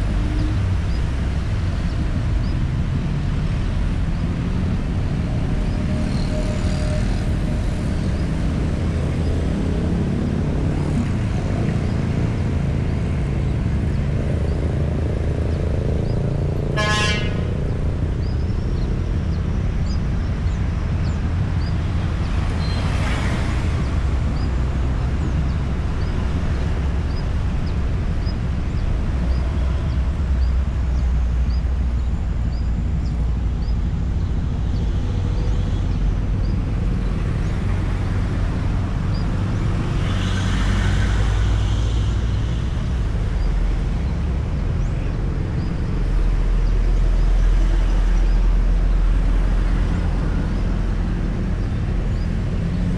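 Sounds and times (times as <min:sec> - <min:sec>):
highway traffic rumble: 0:00.0 - 0:52.9
vehicles passing close by: 0:00.0 - 0:52.9.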